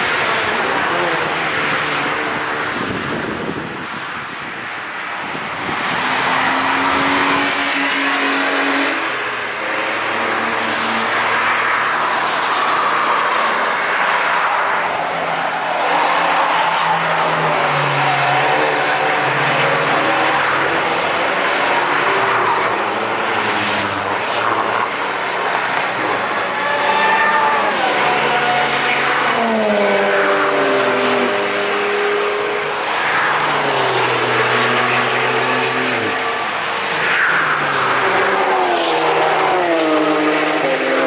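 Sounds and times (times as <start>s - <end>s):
cars racing past: 0.0s - 41.0s.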